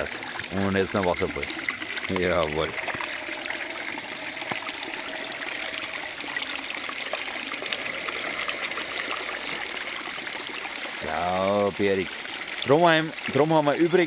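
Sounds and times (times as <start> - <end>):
water splashing over rocks: 0.0 - 14.0.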